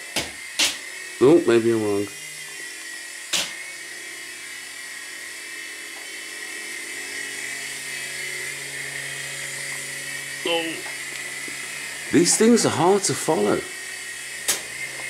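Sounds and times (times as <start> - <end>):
toy helicopter rotors whining: 0.0 - 15.0.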